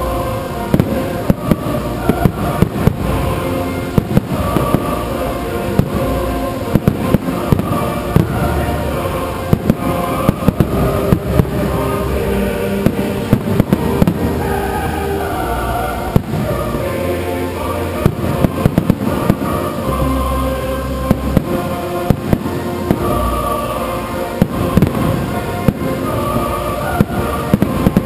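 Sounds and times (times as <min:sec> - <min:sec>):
fireworks bursting: 0:00.0 - 0:28.0
music: 0:00.0 - 0:28.0.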